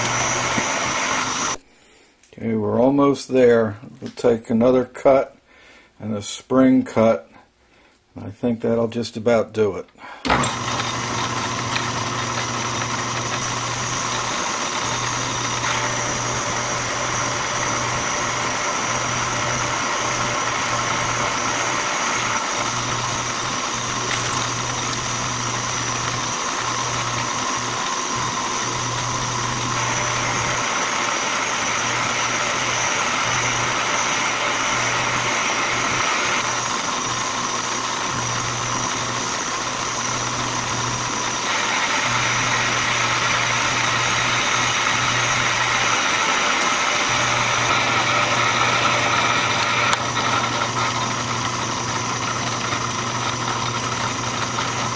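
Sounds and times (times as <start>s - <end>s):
metal lathe motor hum and whine: 0.0s - 1.6s, 10.3s - 54.9s.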